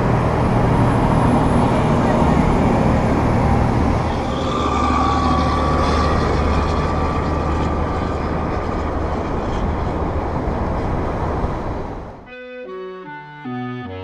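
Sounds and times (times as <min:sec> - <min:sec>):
diesel truck engine drone: 0:00.0 - 0:14.0
truck engine whine: 0:00.0 - 0:14.0.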